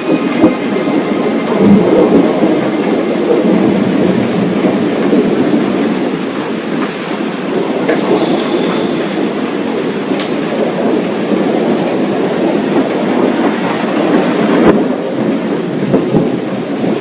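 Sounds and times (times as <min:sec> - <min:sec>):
heavy rain rushing: 0:00.0 - 0:17.0.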